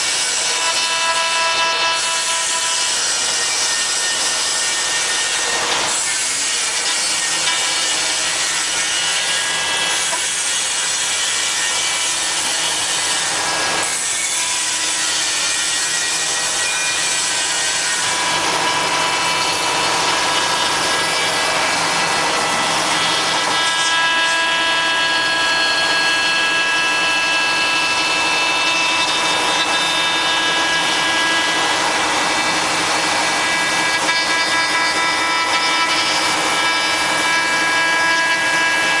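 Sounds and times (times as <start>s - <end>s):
bit rasping in wood: 0.0s - 39.0s
router spindle whine: 0.0s - 39.0s.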